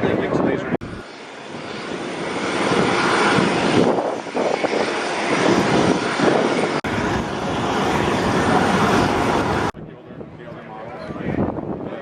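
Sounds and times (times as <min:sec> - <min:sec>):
aircraft engine rushing: 0:00.0 - 0:12.0.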